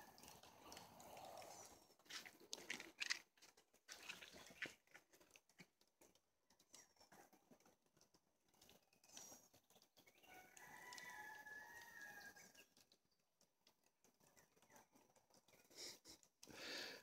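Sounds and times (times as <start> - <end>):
crackling of burning paper and kindling: 0.0 - 15.7.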